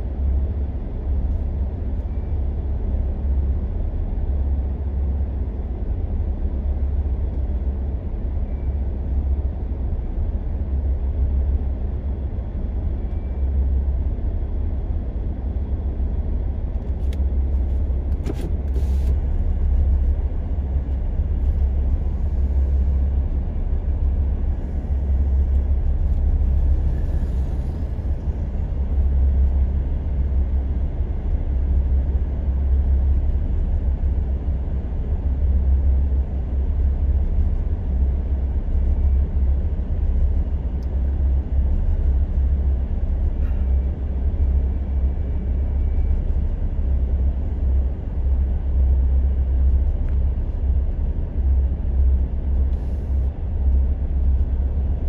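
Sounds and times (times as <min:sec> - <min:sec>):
road roller diesel engines rumbling: 0:00.0 - 0:55.0.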